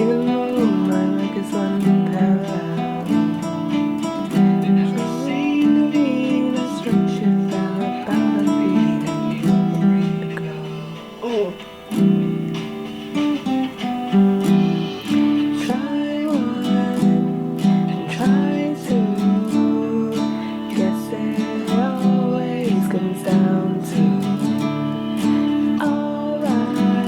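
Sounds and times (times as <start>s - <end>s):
sliding melody line: 0.0s - 27.0s
strummed guitar chords: 0.0s - 27.0s.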